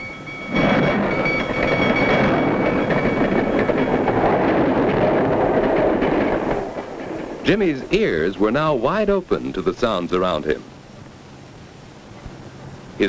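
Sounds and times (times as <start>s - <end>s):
train rumbling past: 0.0s - 11.1s.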